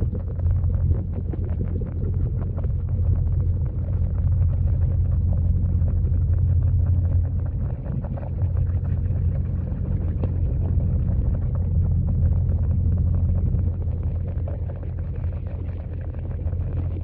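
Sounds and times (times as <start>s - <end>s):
crackle of small ticks: 0.0s - 17.0s
underwater waterfall rumble: 0.0s - 17.0s.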